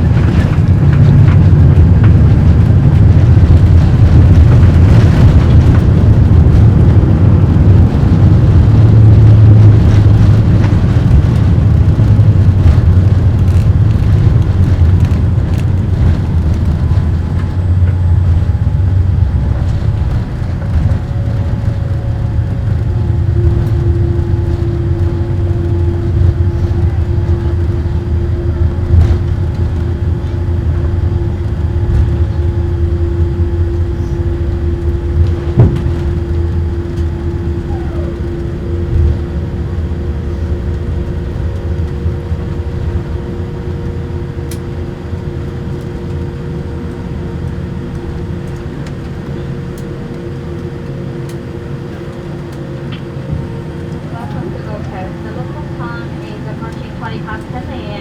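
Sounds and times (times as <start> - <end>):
aircraft engines and wheels rumbling: 0.0 - 58.0
steady hum: 0.0 - 58.0.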